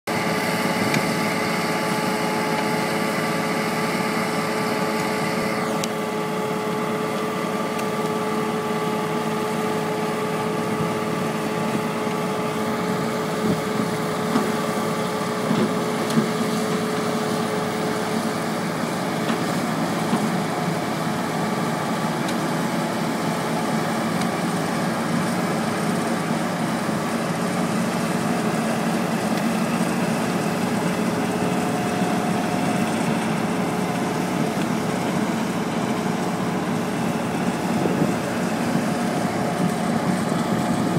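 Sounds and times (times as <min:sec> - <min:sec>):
construction machinery engine humming: 0:00.1 - 0:40.9.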